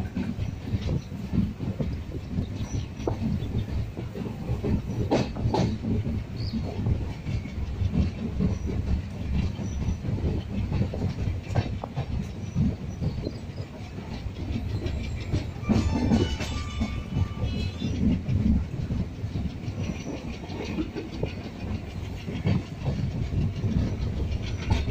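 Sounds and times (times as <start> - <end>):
train rumbling: 0.0 - 24.9
wheels clacking over rails: 0.0 - 24.9.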